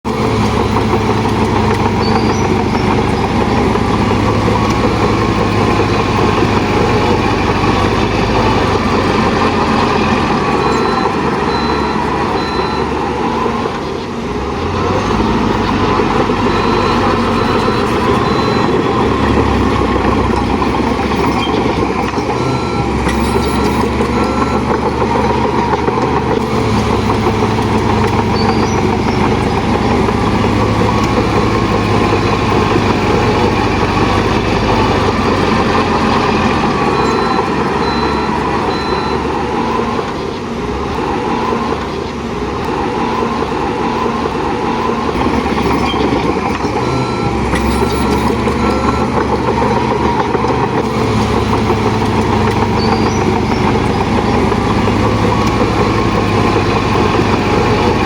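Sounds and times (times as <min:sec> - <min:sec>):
diesel earthmoving machinery: 0:00.0 - 0:58.0
reversing alarm beeping: 0:00.1 - 0:58.0.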